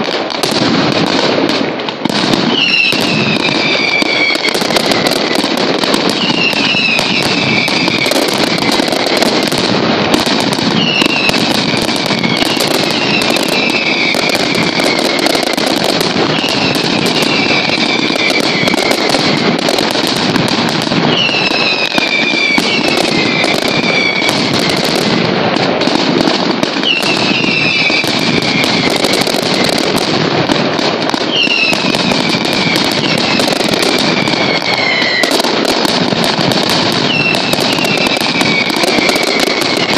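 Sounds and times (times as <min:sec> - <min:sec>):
firecrackers crackling rapidly: 0:00.0 - 0:39.9
whistling fireworks: 0:00.0 - 0:39.9.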